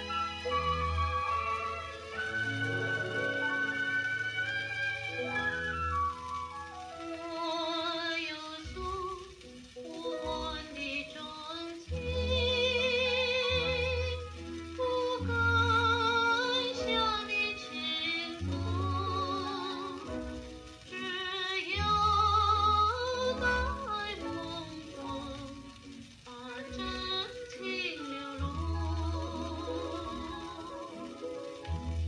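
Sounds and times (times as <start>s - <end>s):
old record playing music: 0.0s - 32.0s.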